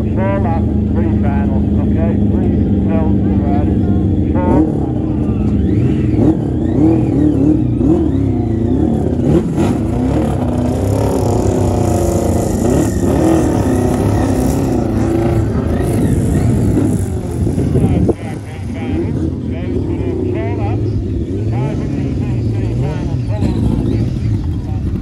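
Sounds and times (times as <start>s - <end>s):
racing engines revving: 0.0s - 25.0s.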